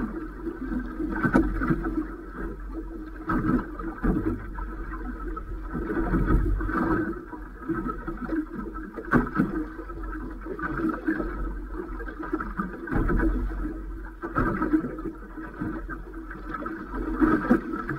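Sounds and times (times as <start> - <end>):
water washing around hull: 0.0 - 17.9.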